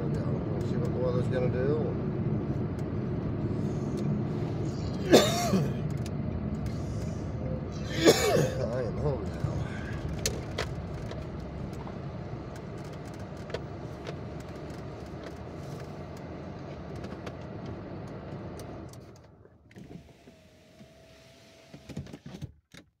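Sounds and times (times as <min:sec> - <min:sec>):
car engine from inside cabin: 0:00.0 - 0:22.2
road rumble: 0:00.0 - 0:22.2.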